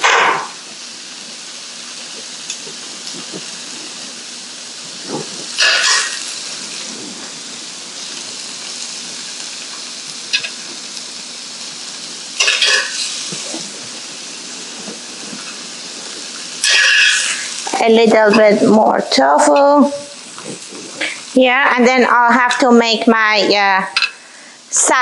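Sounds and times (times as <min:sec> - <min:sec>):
loud sizzle bursts: 0:00.0 - 0:25.0
tofu sizzling in a frying pan: 0:00.0 - 0:25.0.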